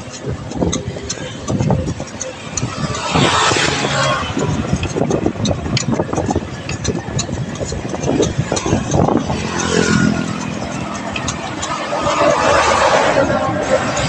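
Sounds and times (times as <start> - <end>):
traffic passing close by: 0.0 - 14.0
vehicle engine hum: 0.0 - 14.0
wind rumbling on microphone: 0.0 - 14.0.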